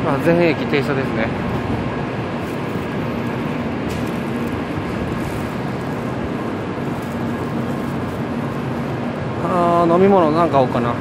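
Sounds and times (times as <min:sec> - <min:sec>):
train hum and hiss: 0:00.0 - 0:11.0.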